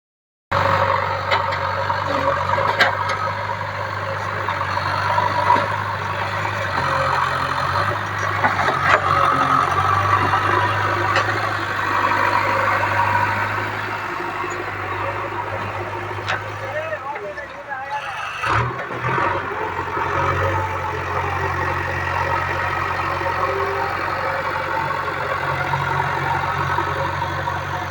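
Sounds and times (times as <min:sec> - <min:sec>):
diesel engine running: 0:00.5 - 0:27.9.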